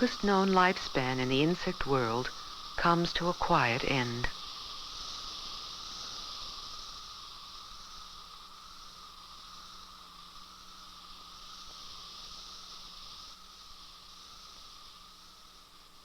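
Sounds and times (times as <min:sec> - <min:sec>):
cicadas shrill drone: 0:00.0 - 0:16.0.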